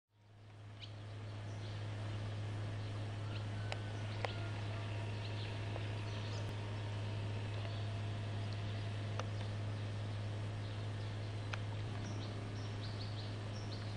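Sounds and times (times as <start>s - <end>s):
steady low hum: 0.1s - 13.9s
bird chirps: 0.2s - 13.9s.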